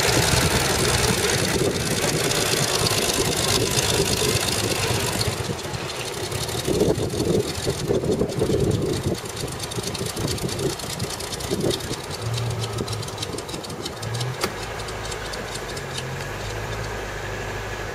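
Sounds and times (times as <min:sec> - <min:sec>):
engine idling unevenly and misfiring: 0:00.0 - 0:17.9.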